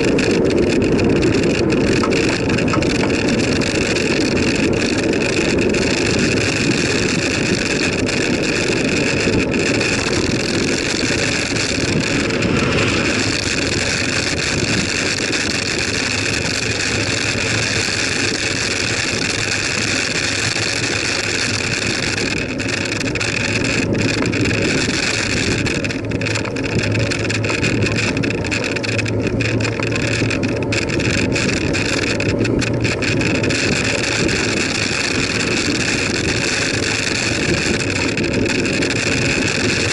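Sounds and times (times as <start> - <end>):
bicycle tyres rolling on tarmac: 0.0 - 39.9
low steady hum: 0.0 - 39.9
wind rushing over microphone: 0.0 - 39.9.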